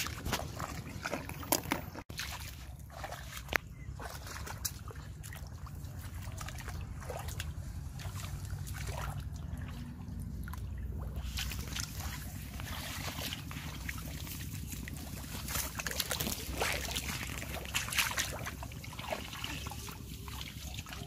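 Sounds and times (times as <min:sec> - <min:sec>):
low steady rumble: 0:00.0 - 0:21.0
muddy water sloshing: 0:00.0 - 0:21.0.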